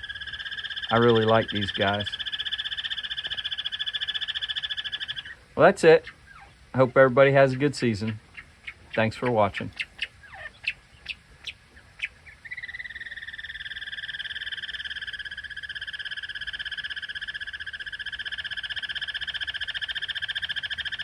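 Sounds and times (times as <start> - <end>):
animal trilling: 0.0 - 7.1, 7.8 - 21.0.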